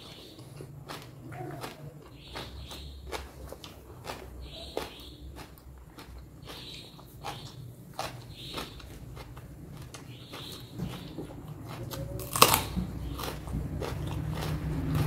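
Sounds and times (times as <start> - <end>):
chewing crunchy food: 0.0 - 15.0.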